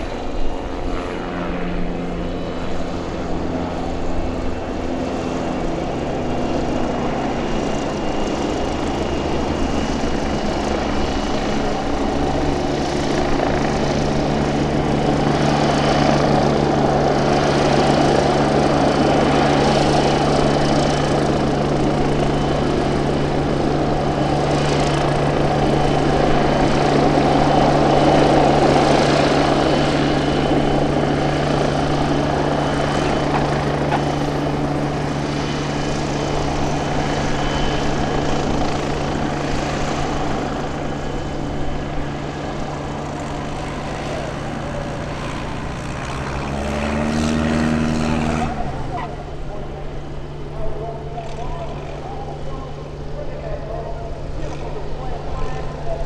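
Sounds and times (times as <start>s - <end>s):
propeller plane droning: 0.0s - 56.0s.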